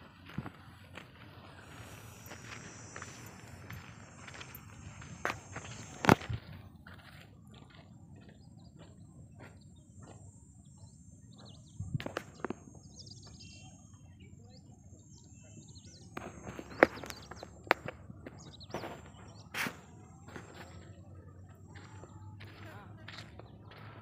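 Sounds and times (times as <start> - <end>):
small birds chirping: 0.1 - 24.0.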